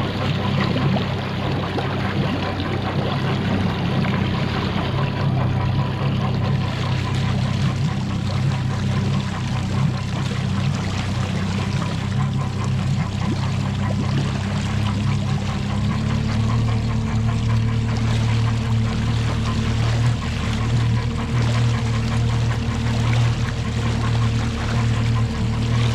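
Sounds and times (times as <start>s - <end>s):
outboard motor running: 0.0s - 25.9s
water splashing and rushing: 0.0s - 25.9s.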